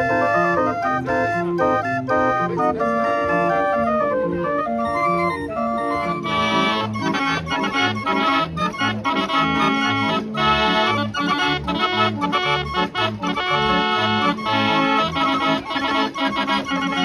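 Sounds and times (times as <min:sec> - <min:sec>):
barrel organ playing: 0:00.0 - 0:17.0
oom-pah bass chords: 0:00.0 - 0:17.0.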